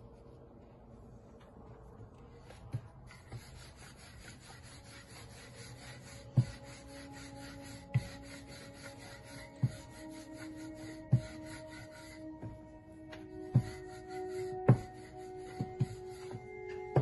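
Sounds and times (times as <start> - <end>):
rolling pin rubbing on dough: 2.6 - 17.0.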